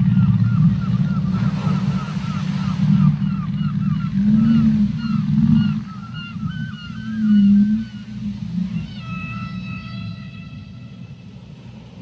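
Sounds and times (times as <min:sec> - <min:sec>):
whale calls: 0:00.0 - 0:12.0.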